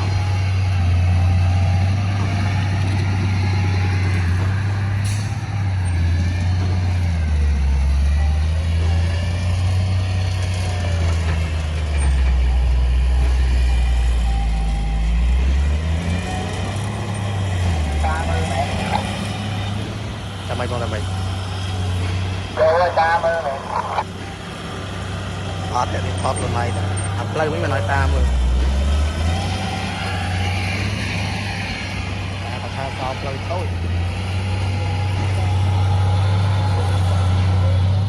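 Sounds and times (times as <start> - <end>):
heavy diesel engine drone: 0.0 - 38.0.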